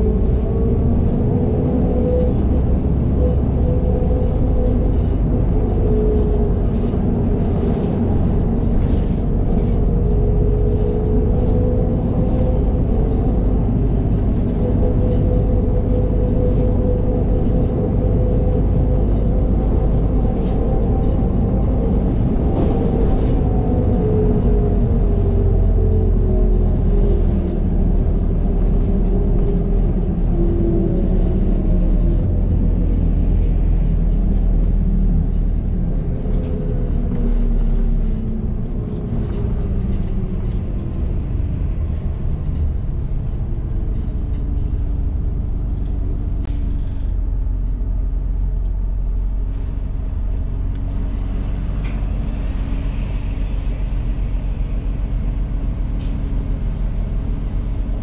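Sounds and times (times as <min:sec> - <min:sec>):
bus drivetrain rumble and whine: 0:00.0 - 0:58.0.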